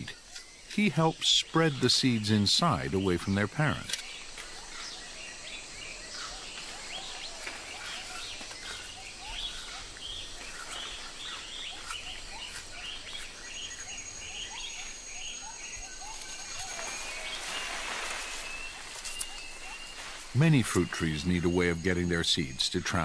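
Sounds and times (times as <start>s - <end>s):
background hiss: 0.0s - 23.0s
birds chirping chorus: 0.0s - 23.0s.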